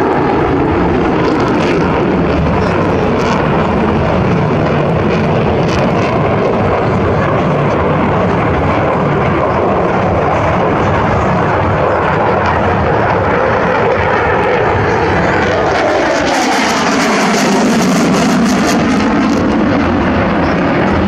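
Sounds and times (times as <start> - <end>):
aircraft engines running: 0.0 - 21.0.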